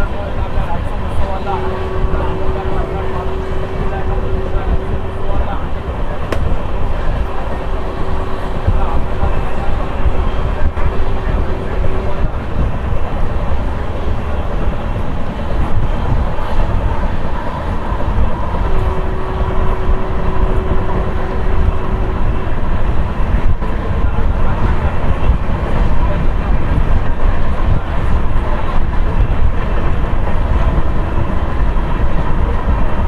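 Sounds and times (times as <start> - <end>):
faint locomotive whine: 0.0 - 33.0
train rumbling on rails: 0.0 - 33.0.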